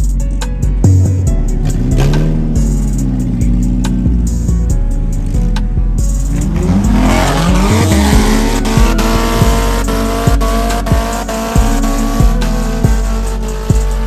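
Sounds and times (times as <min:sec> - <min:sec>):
music with heavy bass beat: 0:00.0 - 0:14.0
car engine revving: 0:00.7 - 0:14.0.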